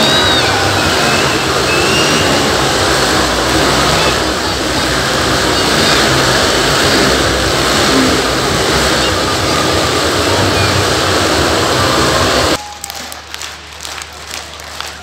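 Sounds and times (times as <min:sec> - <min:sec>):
motorcycle engines revving: 0:00.0 - 0:12.6.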